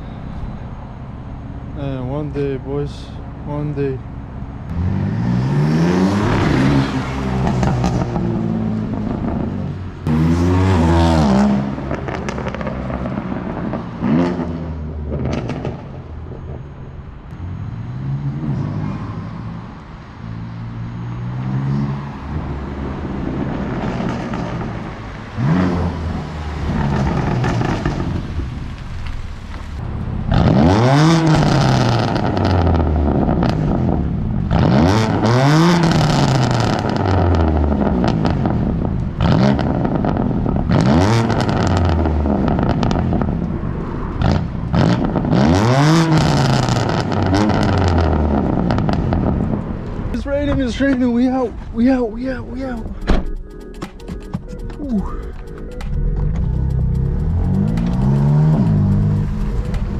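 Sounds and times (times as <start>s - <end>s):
car engine accelerating hard: 4.6s - 16.6s, 17.2s - 50.2s, 52.5s - 59.9s.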